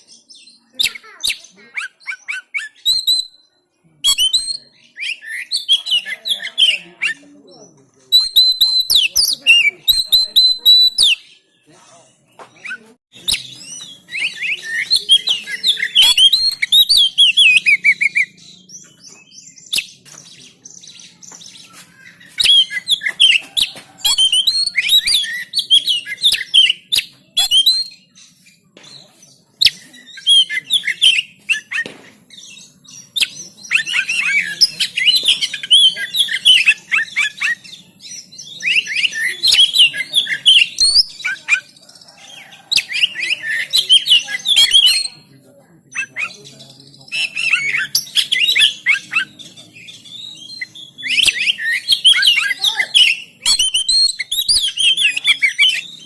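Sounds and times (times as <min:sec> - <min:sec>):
bird singing chirps and whistles: 0:00.0 - 0:11.4, 0:12.6 - 0:45.3, 0:45.9 - 0:56.0.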